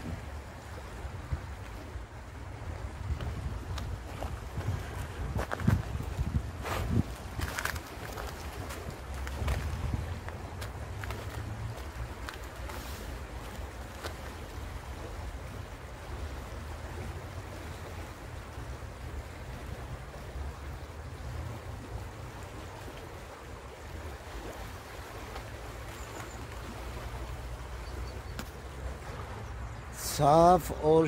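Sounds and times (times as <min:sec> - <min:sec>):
river water rushing past rocks: 0:00.0 - 0:31.0.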